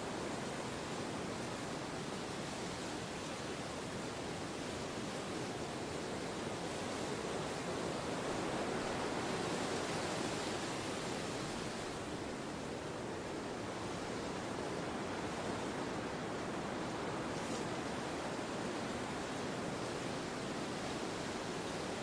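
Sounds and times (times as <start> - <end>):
steady wind: 0.0 - 22.0.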